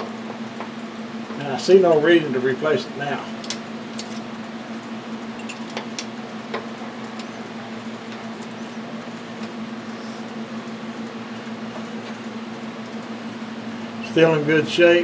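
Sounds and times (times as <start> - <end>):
steady droning hum: 0.0 - 15.0.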